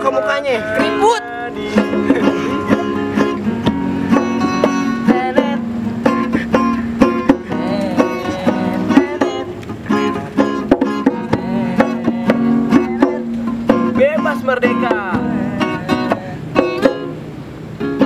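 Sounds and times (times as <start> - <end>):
plucked string instrument: 0.0 - 18.0.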